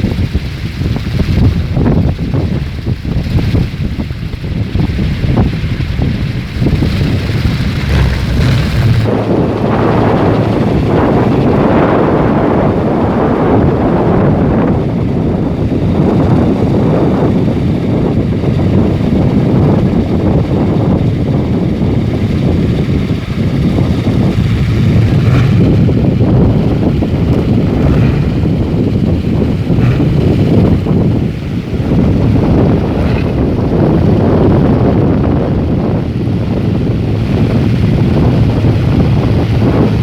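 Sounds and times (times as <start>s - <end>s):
wind buffeting microphone: 0.0s - 40.0s
wooden propeller rumbling: 0.0s - 40.0s.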